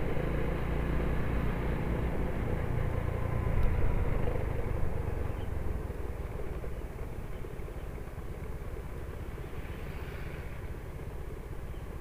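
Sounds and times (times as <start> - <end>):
motorcycle engine rumble: 0.0 - 12.0
road and wind noise: 0.0 - 12.0.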